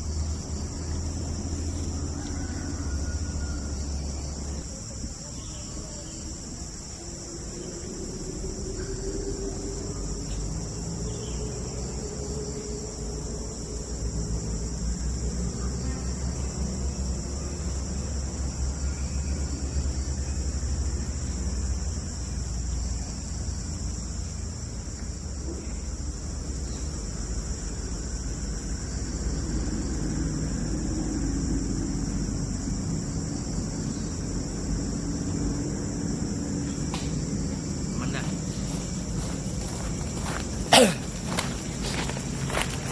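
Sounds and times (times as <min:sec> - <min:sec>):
chorus of insects: 0:00.0 - 0:42.9.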